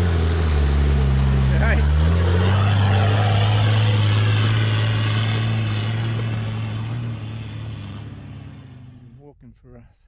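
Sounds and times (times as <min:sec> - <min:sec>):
vehicle engine droning uphill: 0:00.0 - 0:09.9.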